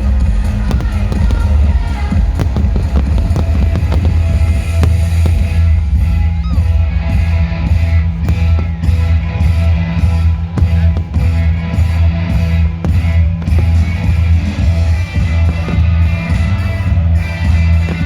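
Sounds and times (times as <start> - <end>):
firework bangs and crackles: 0.0 - 18.0.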